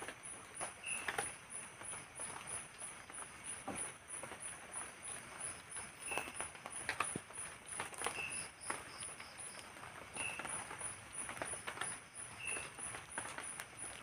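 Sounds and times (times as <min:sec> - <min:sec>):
drizzle dripping on tarp and leaves: 0:00.0 - 0:14.0
night insects chirping: 0:00.0 - 0:14.0.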